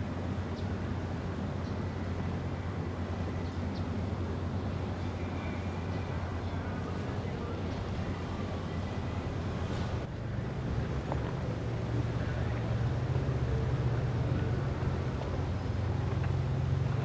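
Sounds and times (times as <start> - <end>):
boat engines rumbling: 0.0 - 17.0.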